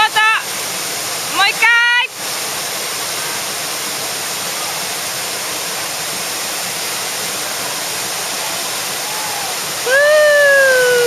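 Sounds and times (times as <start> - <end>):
whitewater river roaring: 0.4 - 11.0.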